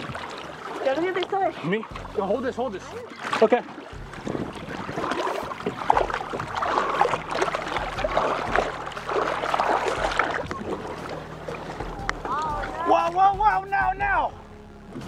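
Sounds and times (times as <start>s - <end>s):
water splashing against boat hull: 0.0s - 14.2s.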